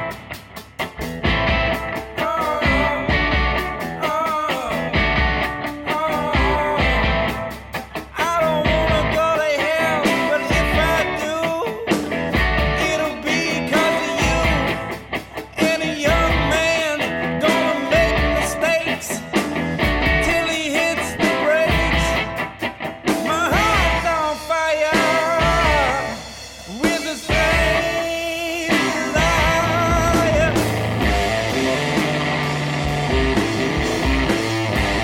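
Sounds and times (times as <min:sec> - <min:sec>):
rock song with vocals: 0:00.0 - 0:35.0.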